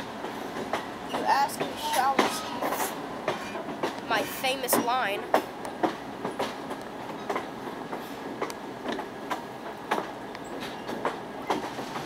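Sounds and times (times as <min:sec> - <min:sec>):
train rumbling: 0:00.0 - 0:12.0
train wheels clicking over rail joints: 0:00.0 - 0:12.0.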